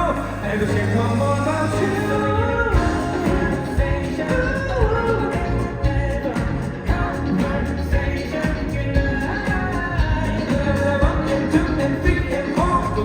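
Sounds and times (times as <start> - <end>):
man singing pop song: 0.0 - 13.0
pop band backing with beat: 0.0 - 13.0.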